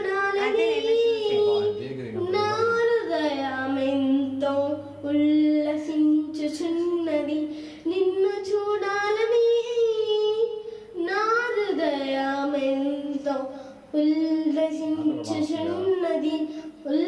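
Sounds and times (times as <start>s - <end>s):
girl singing into microphone: 0.0s - 17.0s.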